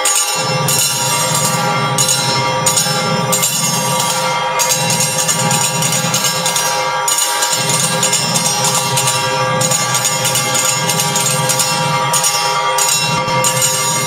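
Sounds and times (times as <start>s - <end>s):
bells ringing rapidly: 0.0s - 14.0s.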